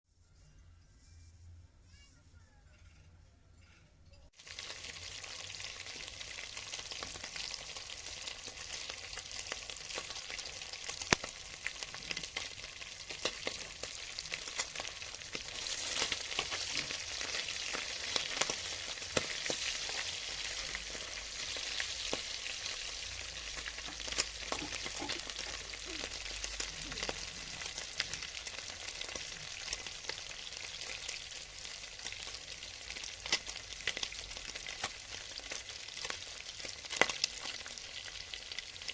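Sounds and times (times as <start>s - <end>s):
food sizzling in a pan: 4.3s - 38.9s.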